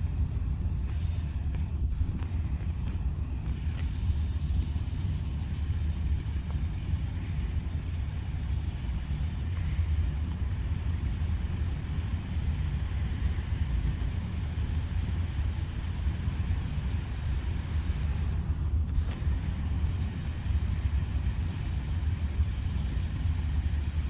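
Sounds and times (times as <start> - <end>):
machinery rumbling: 0.0 - 24.0.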